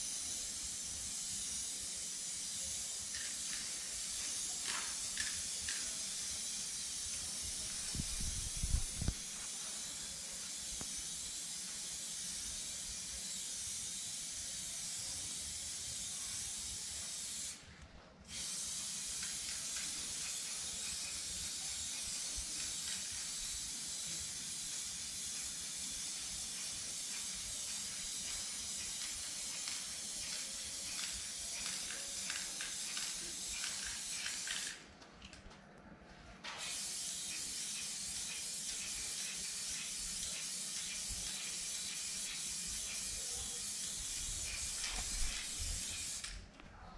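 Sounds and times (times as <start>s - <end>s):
spray can hissing: 0.0s - 17.6s, 18.3s - 34.8s, 36.6s - 46.4s.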